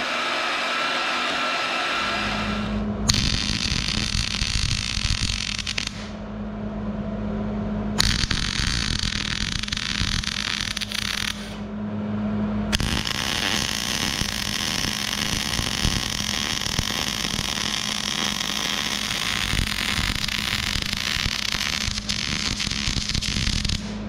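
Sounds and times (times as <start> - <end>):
welding arc crackling: 0.0 - 6.2, 8.0 - 11.6, 12.7 - 24.0
low hum: 0.0 - 24.0.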